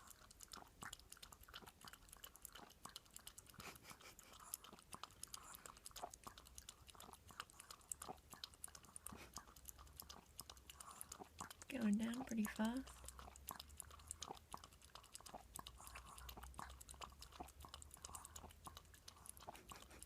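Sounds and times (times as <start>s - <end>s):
dog lapping milk: 0.0s - 20.0s.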